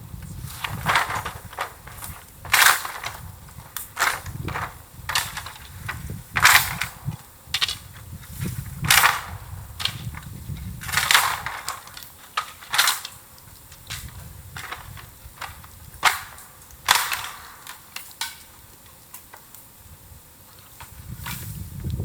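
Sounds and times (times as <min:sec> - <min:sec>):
bamboo crackling and popping: 0:00.0 - 0:22.0
bonfire low rumble: 0:00.0 - 0:22.0.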